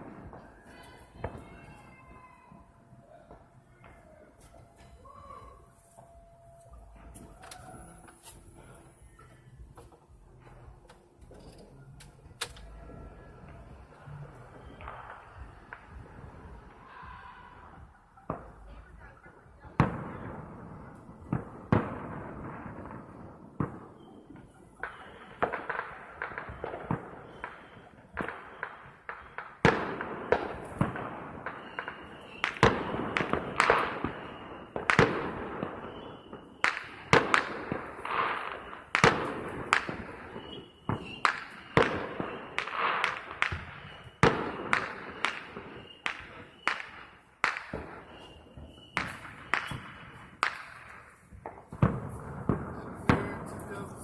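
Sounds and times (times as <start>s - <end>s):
fireworks bangs and pops: 0.0s - 54.0s.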